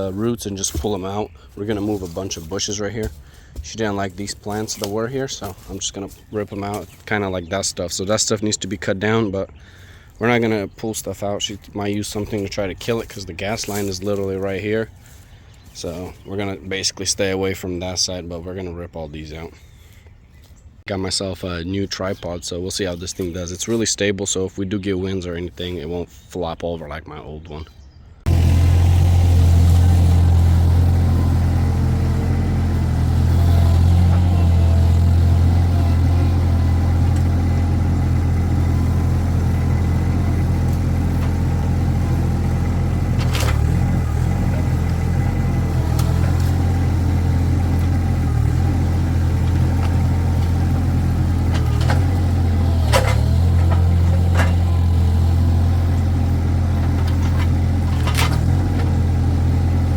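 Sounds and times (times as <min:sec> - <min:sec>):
skid steer engine running: 0:00.0 - 0:16.9, 0:28.2 - 0:59.9.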